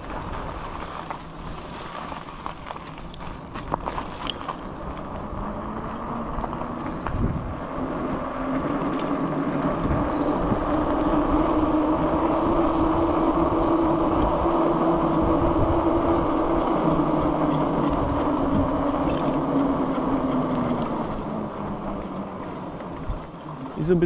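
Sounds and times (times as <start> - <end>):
e-bike motor hum: 0.0 - 24.0
tyres rolling on wet road: 0.0 - 24.0.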